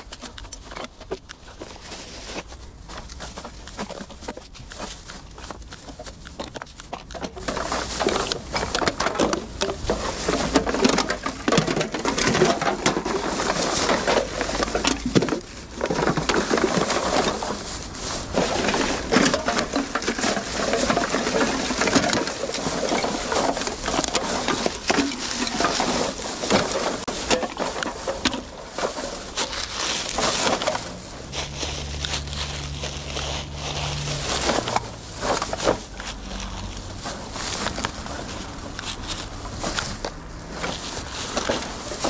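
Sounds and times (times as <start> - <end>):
plastic bag rustling: 0.0 - 42.0.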